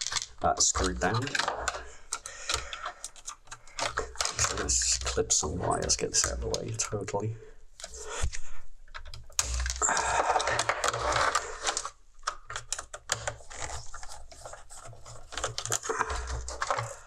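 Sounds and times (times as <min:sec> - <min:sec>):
hand tools clicking and scraping: 0:00.0 - 0:07.0, 0:09.4 - 0:17.0.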